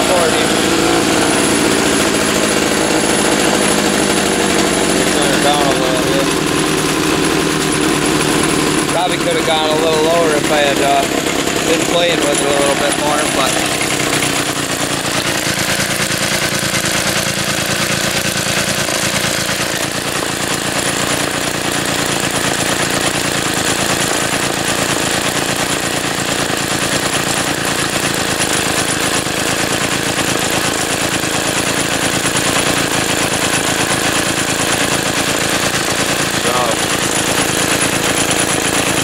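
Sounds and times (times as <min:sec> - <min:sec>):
snowblower engine idling: 0:00.0 - 0:39.0.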